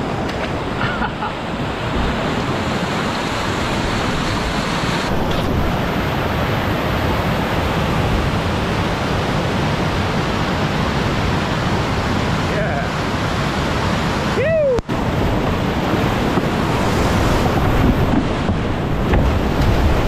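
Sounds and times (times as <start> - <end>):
rush of whitewater rapids: 0.0 - 20.0.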